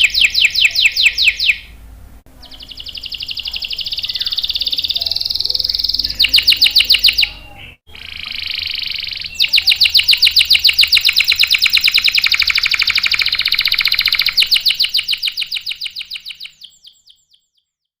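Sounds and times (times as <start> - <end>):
canary singing trills: 0.0 - 17.9.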